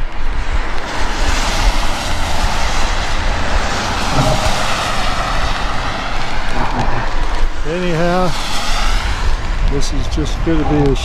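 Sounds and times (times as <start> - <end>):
gusty wind on microphone: 0.0 - 11.0.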